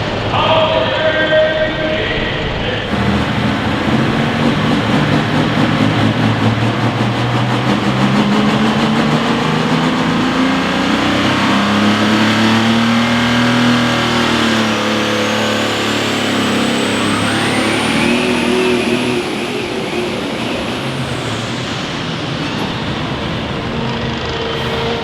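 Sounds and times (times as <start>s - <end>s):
high whine rising in pitch: 2.7s - 25.0s
vehicle engine revving hard: 2.9s - 25.0s.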